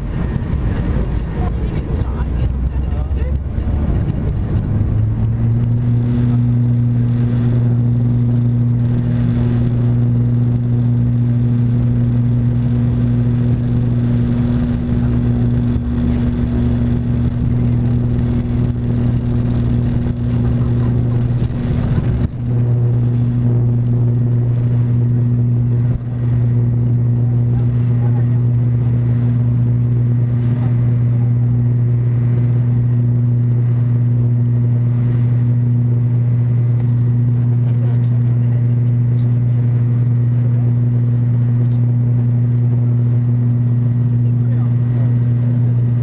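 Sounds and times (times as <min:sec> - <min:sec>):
propeller engine drone: 0:00.0 - 0:46.0.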